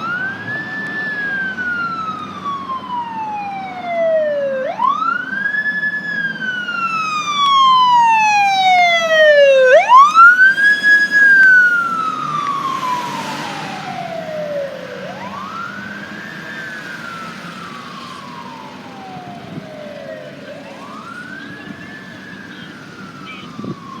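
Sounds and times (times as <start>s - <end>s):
emergency siren wailing: 0.0s - 24.0s
road noise: 0.0s - 24.0s.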